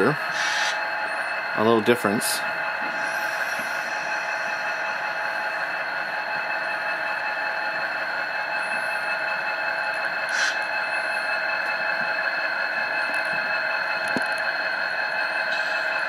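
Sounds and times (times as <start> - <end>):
electronic diesel engine drone: 0.0 - 16.0.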